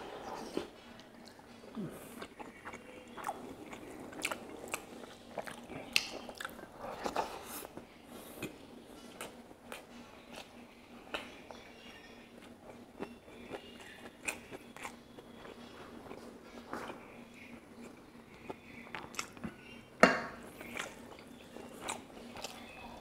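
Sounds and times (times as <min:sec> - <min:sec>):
person chewing food: 0:00.0 - 0:11.6, 0:12.4 - 0:19.6, 0:20.4 - 0:23.0.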